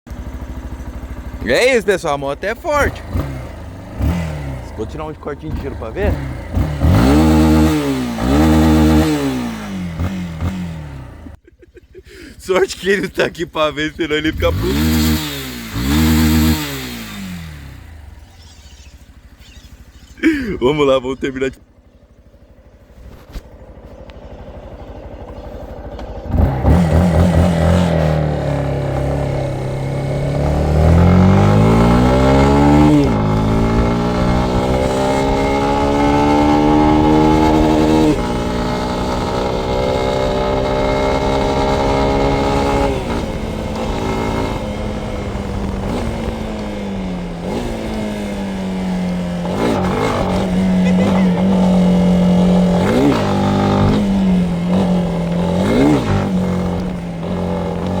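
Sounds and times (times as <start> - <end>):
motorcycle engine revving: 0.1 - 11.5, 12.1 - 58.0.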